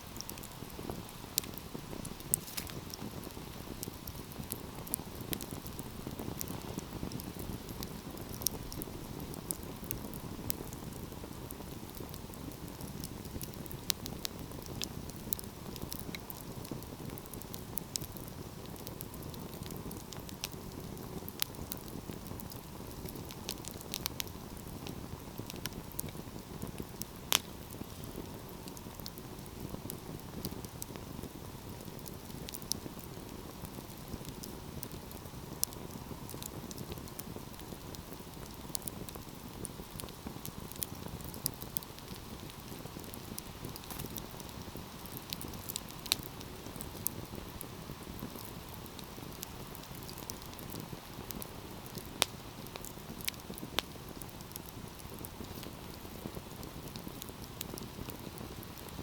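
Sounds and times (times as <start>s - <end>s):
fire crackling and popping: 0.0s - 59.0s
flames rushing in a fireplace: 0.0s - 59.0s.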